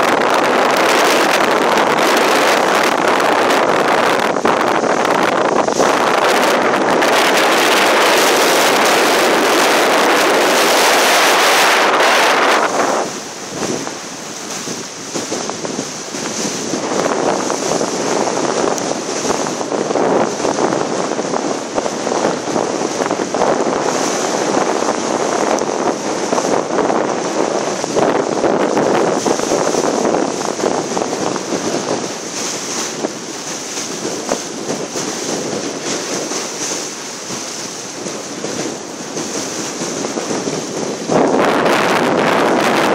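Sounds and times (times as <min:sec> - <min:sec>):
choppy water rushing and splashing: 0:00.0 - 0:42.9
wind buffeting microphone: 0:00.0 - 0:42.9.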